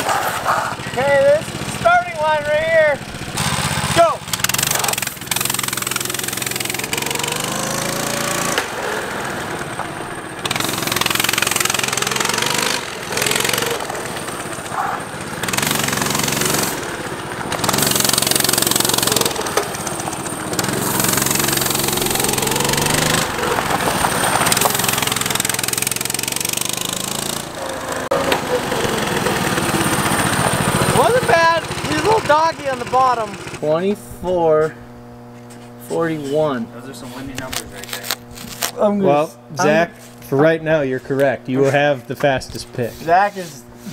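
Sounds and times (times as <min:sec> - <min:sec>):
mini bike engine revving: 0:00.0 - 0:33.9, 0:36.0 - 0:39.9.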